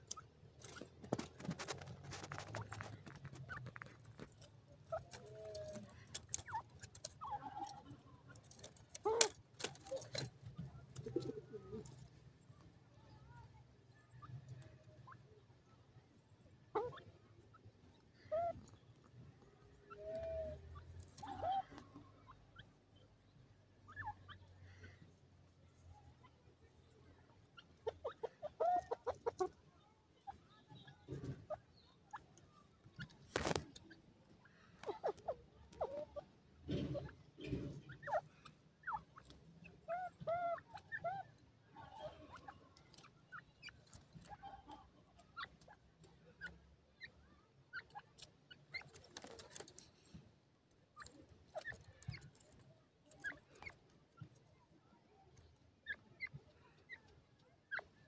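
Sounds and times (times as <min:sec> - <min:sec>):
beaks pecking soil: 0:00.0 - 0:58.0
birds clucking and calling: 0:00.0 - 0:58.0.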